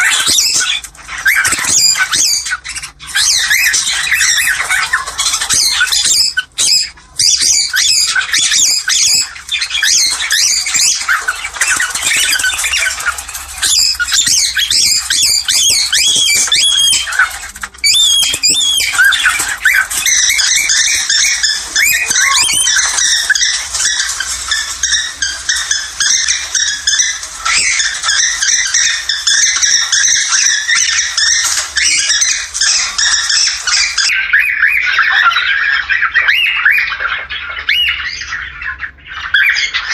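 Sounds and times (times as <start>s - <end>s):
cockatiels chattering: 0.0s - 39.9s.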